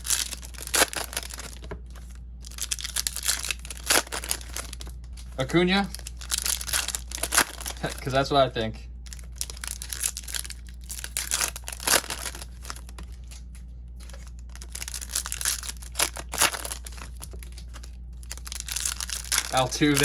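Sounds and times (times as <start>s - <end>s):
foil wrappers tearing and crinkling: 0.0s - 8.3s, 9.0s - 20.0s
low hum: 0.0s - 20.0s.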